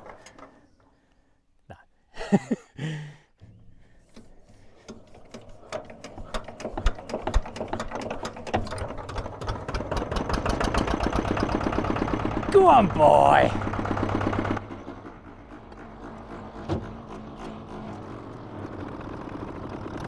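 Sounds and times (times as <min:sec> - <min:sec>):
dumper engine starting up: 0:03.4 - 0:20.0.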